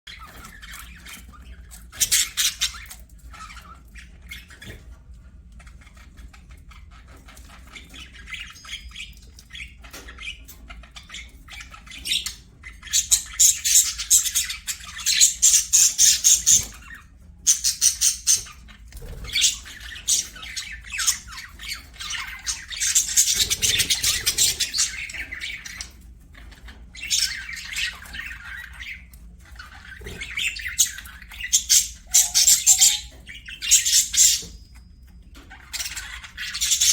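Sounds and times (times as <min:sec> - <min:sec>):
budgerigars chattering and chirping: 0:00.1 - 0:36.9.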